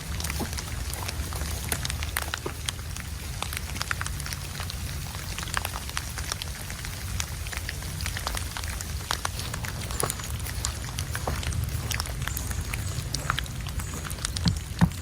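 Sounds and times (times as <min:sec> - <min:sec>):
ice pellets pattering: 0:00.0 - 0:15.0
low wind rumble: 0:00.0 - 0:15.0.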